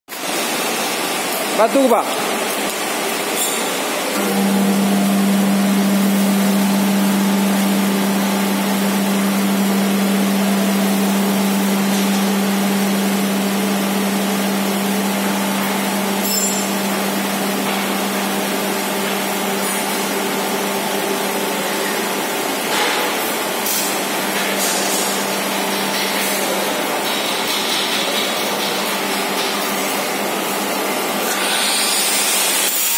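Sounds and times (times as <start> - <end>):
mixer motor humming: 4.1 - 32.7.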